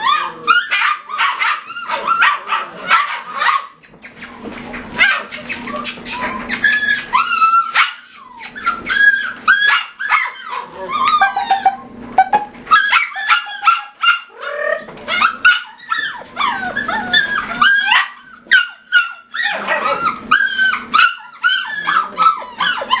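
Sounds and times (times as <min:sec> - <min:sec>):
puppies yipping and whining: 0:00.0 - 0:23.0.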